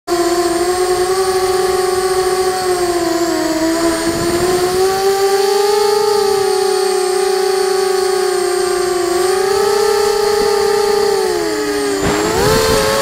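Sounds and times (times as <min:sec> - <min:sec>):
quadcopter motors whining: 0:00.1 - 0:13.0.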